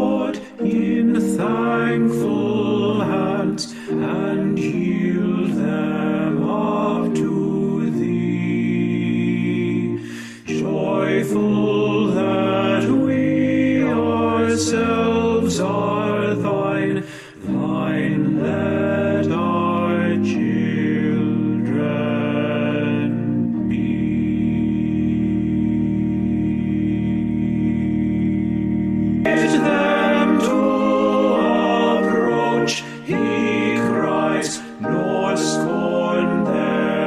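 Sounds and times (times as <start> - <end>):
held accompanying chords: 0.0 - 37.0
hymn singing: 0.0 - 37.0.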